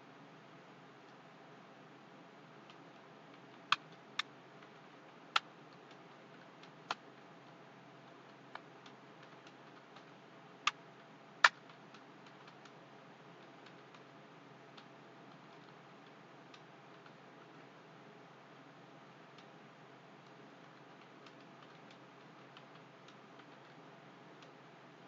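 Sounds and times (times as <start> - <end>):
low hiss: 0.0 - 25.0.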